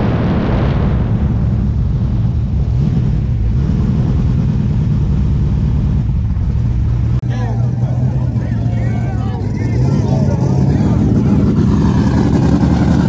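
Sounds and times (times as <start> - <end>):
race car engines droning: 1.2 - 13.0.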